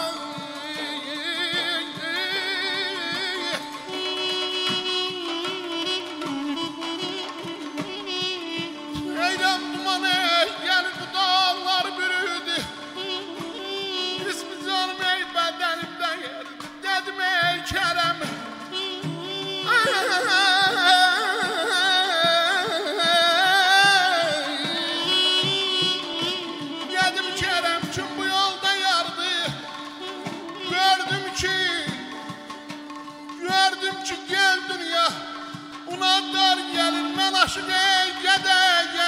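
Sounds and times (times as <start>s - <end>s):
man singing: 0.0s - 39.0s
wavering reed pipe melody: 0.0s - 39.0s.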